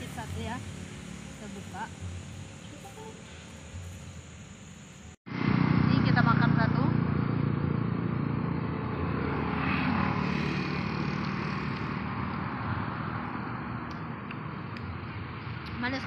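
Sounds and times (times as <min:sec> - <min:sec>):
vehicle passing on road: 0:00.0 - 0:04.4, 0:05.3 - 0:16.0.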